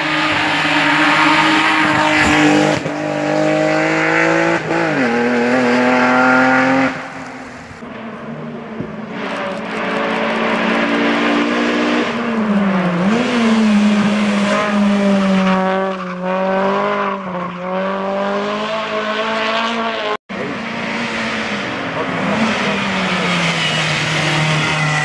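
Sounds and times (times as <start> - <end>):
race car engine at high revs: 0.0 - 25.0.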